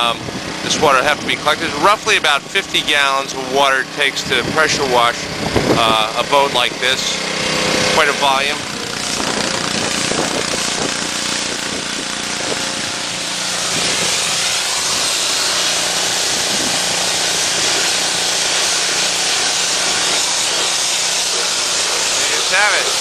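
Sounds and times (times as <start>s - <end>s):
steady hum: 0.0s - 23.0s
pressure washer spray hissing: 1.2s - 23.0s.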